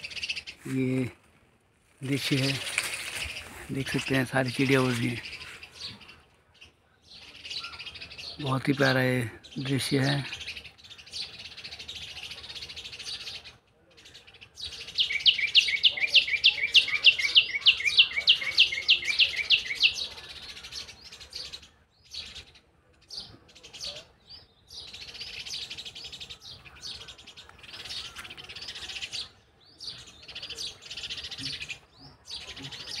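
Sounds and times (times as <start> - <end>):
many birds chattering: 0.0 - 33.0.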